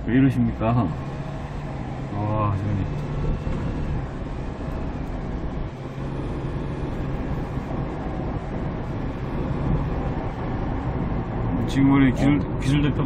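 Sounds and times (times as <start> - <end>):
diesel engine drone: 0.0 - 13.0
road and tyre noise: 0.0 - 13.0.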